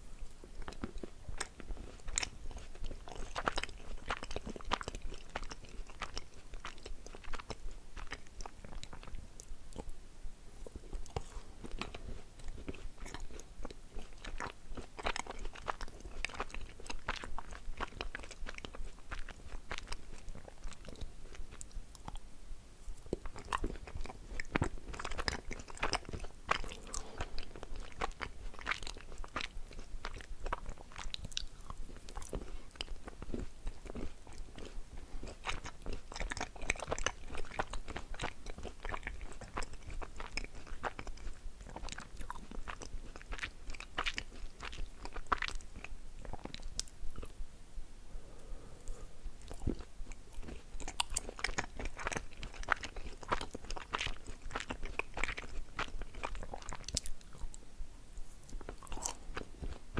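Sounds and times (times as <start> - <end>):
chewing crunches: 0.4 - 10.0, 10.6 - 22.2, 22.9 - 47.4, 48.9 - 57.6, 58.3 - 59.9.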